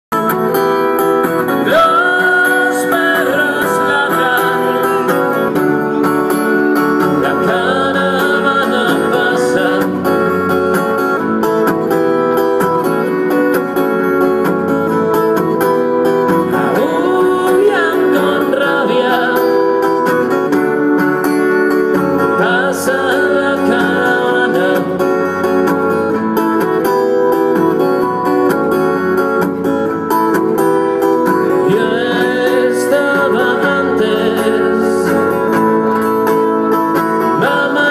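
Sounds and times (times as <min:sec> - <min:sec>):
acoustic guitar strumming: 0:00.1 - 0:37.9.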